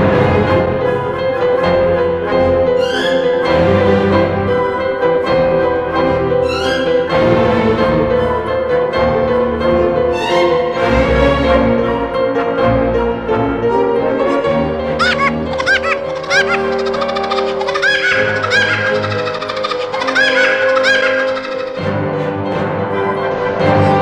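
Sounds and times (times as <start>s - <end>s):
orchestral strings music: 0.0s - 24.0s.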